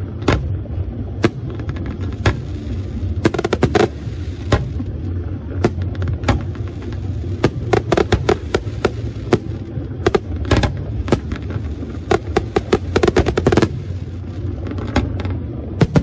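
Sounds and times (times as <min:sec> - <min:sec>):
low rumble: 0:00.0 - 0:16.0
fireworks bursting with bangs: 0:01.2 - 0:04.8, 0:05.6 - 0:16.0.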